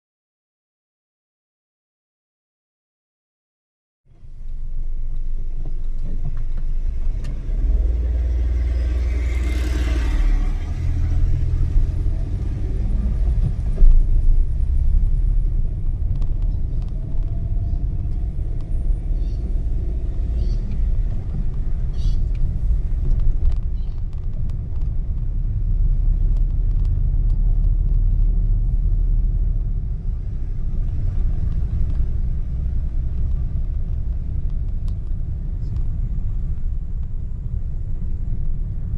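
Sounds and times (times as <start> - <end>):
vehicle rumble on road: 4.1 - 38.9.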